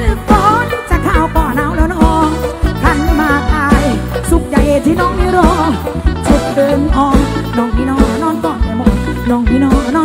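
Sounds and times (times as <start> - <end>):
melodic lead line with bending notes: 0.0 - 10.0.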